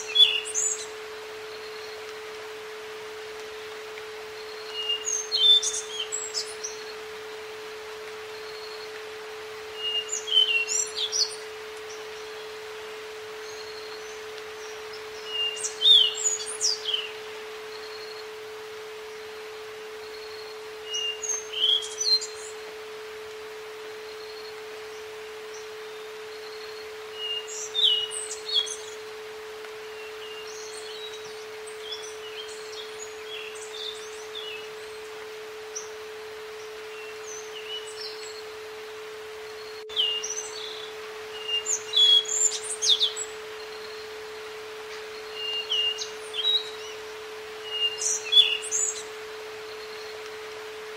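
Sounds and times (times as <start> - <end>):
soft outdoor hiss: 0.0 - 50.9
songbird chirping: 0.0 - 50.9
steady pure tone: 0.0 - 50.9.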